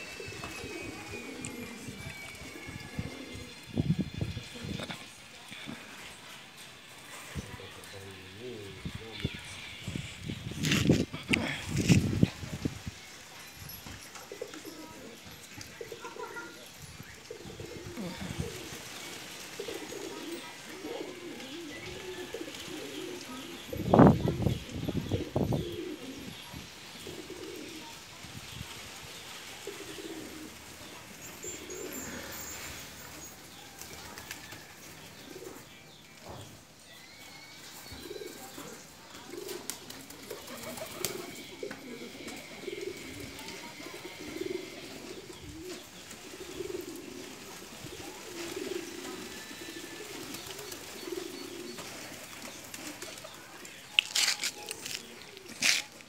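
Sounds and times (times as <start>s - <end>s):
pigeons cooing: 0.0s - 5.1s, 13.9s - 56.0s.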